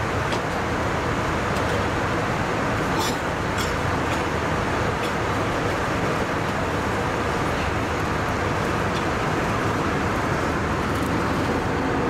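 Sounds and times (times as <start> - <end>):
airliner cabin engine rush: 0.0 - 12.0.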